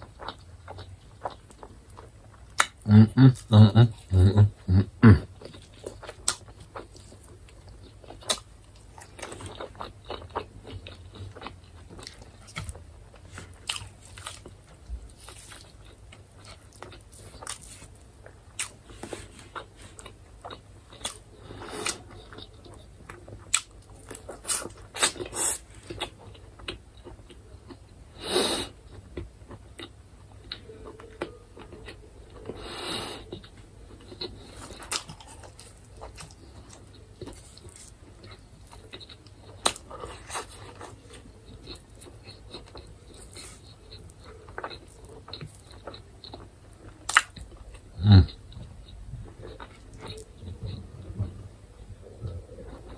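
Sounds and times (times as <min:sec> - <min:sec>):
chewing and crunching: 0:00.0 - 0:28.0, 0:28.8 - 0:52.9.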